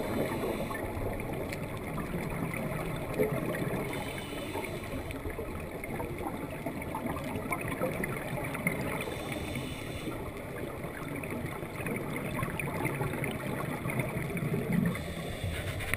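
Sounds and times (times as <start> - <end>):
regulator bubbles gurgling underwater: 0.0 - 15.9
steady water rumble: 0.0 - 15.9.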